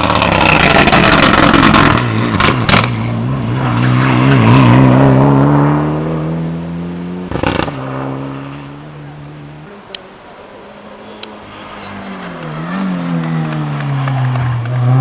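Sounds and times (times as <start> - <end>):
rally car engine accelerating: 0.0 - 9.8, 10.7 - 15.0.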